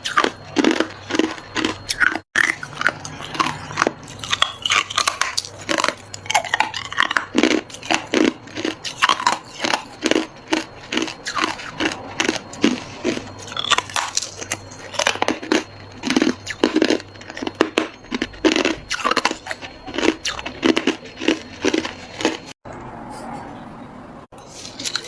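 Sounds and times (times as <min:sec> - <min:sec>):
ice cubes crunching: 0:00.0 - 0:22.5.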